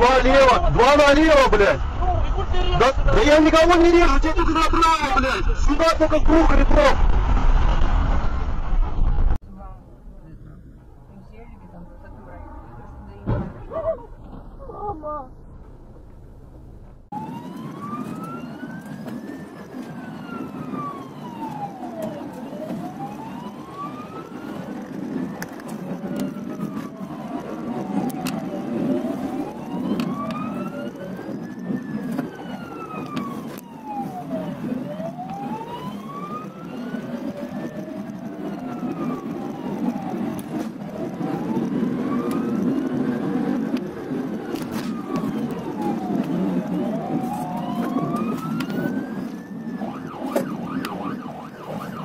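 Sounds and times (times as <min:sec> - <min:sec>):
ambulance siren wailing: 0:00.0 - 0:07.0, 0:17.1 - 0:52.0
car road and engine noise: 0:00.0 - 0:52.0
lower siren tone: 0:02.6 - 0:52.0.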